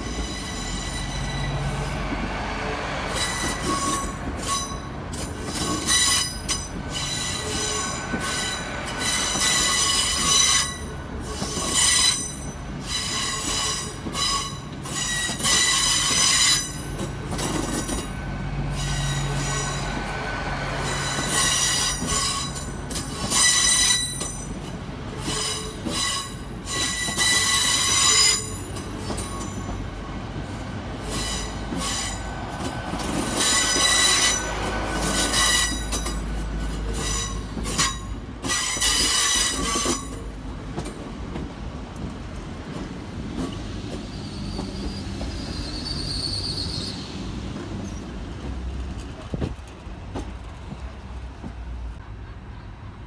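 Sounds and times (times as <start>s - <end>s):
train wheels squealing on rails: 0.0s - 50.3s
low train drone: 0.0s - 53.0s.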